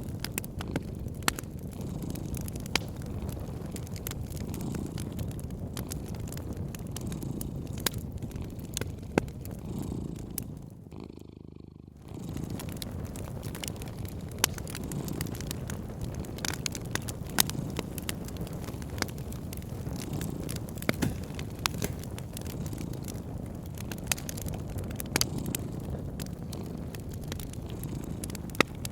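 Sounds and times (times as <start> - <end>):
cat purring: 0.0 - 28.9
wood fire crackling: 0.0 - 28.9.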